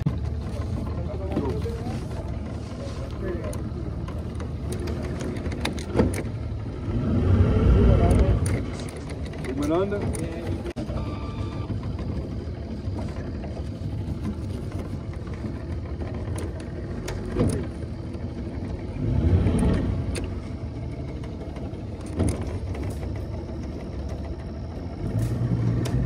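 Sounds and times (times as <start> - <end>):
boat motor running: 0.0 - 26.0.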